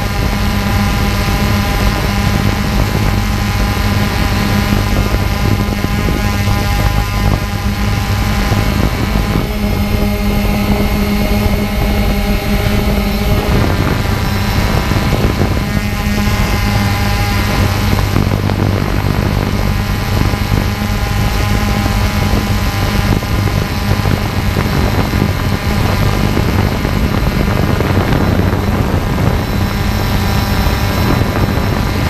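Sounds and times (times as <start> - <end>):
drone propellers whirring: 0.0 - 32.0.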